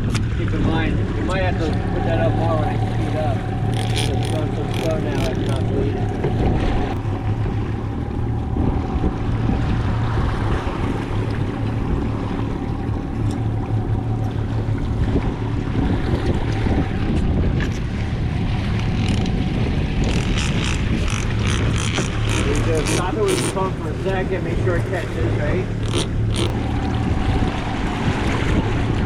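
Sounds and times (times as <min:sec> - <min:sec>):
boat engine running: 0:00.0 - 0:29.0
water washing past hull: 0:00.0 - 0:29.0
wind on microphone: 0:00.0 - 0:29.0.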